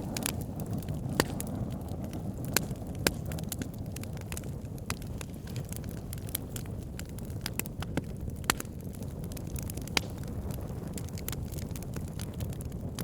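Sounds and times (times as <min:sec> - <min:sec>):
crackles and pops from logs: 0:00.0 - 0:13.0
wood fire rumbling: 0:00.0 - 0:13.0.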